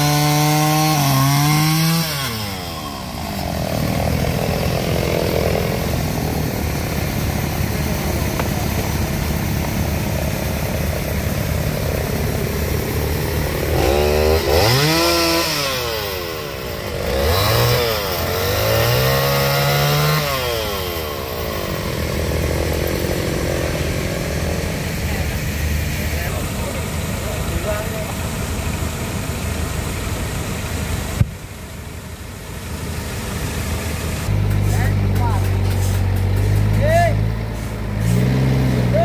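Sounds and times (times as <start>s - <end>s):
small petrol engine idling and revving: 0.0s - 39.0s.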